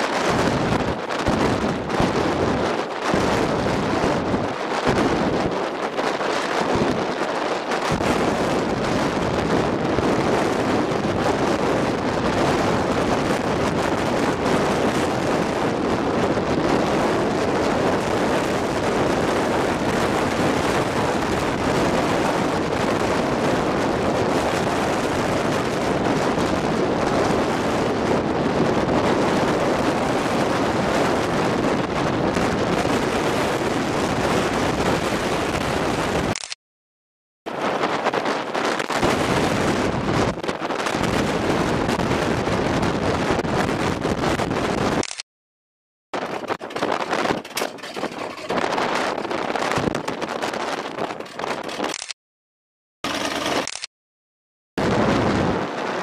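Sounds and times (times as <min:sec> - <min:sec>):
wind buffeting the microphone: 0:00.0 - 0:36.6, 0:37.5 - 0:45.2, 0:46.2 - 0:52.2, 0:54.8 - 0:56.0.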